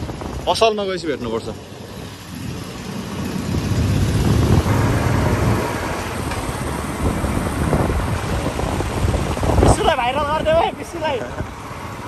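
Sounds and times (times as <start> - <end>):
wind on microphone: 0.0 - 0.6, 1.9 - 11.5
motorcycle engine rumble: 0.0 - 12.0.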